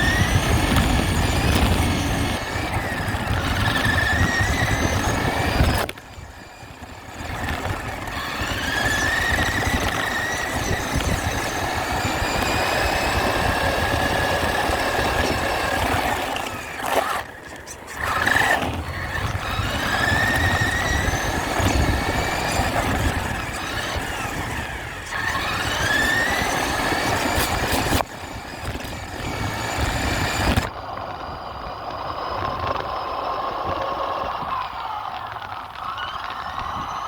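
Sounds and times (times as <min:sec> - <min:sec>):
rc truck motor whining: 0:00.0 - 0:37.0.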